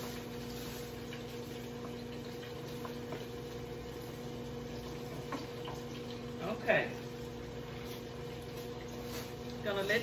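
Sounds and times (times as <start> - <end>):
hot oil sizzling: 0.0 - 10.0.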